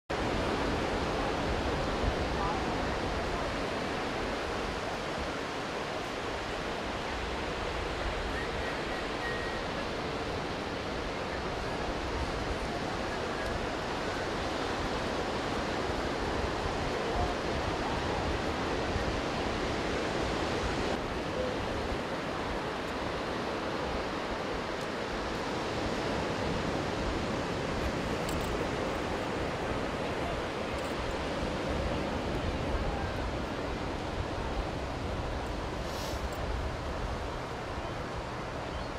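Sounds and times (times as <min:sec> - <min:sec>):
wind: 0:00.0 - 0:38.9
ocean surf on sandy beach: 0:00.1 - 0:38.9.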